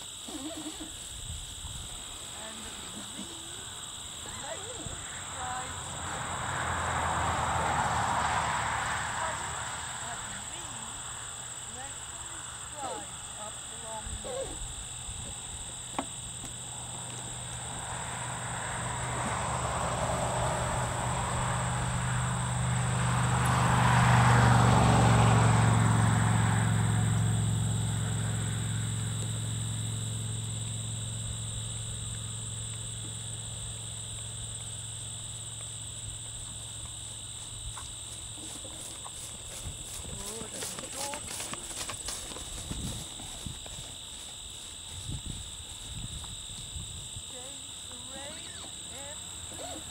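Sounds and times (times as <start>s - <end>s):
insects chirping: 0.0s - 49.9s
vehicle passing: 3.8s - 13.8s, 16.3s - 49.9s.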